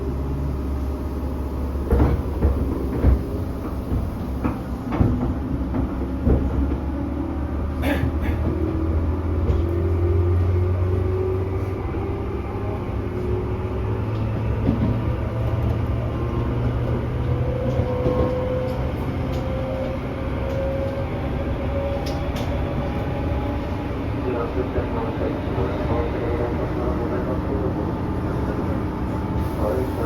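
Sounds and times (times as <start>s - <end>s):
electric train rumble and motor hum: 0.0s - 30.0s.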